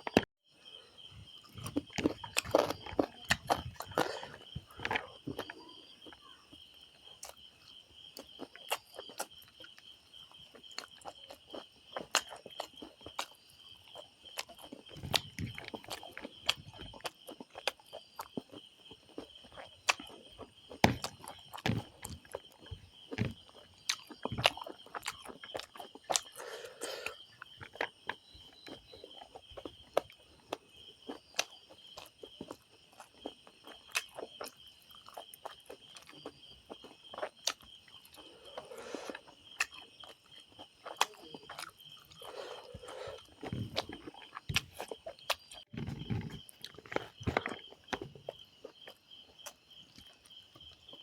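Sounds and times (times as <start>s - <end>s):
insects chirring: 0.0s - 51.0s
person chewing food: 0.0s - 51.0s.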